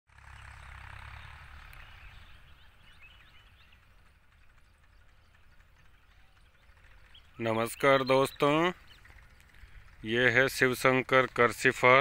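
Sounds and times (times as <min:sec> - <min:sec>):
faint bird chirps: 0:00.4 - 0:10.0.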